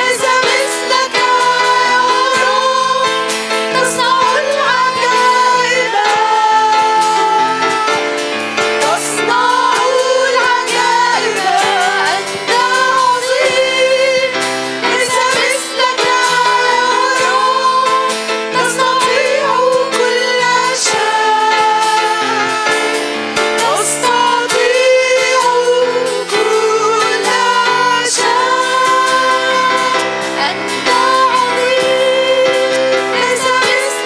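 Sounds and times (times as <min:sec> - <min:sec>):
accordion: 0:00.0 - 0:34.0
drums: 0:00.0 - 0:34.0
electric guitar: 0:00.0 - 0:34.0
keyboard: 0:00.0 - 0:34.0
women singing together: 0:00.0 - 0:34.0.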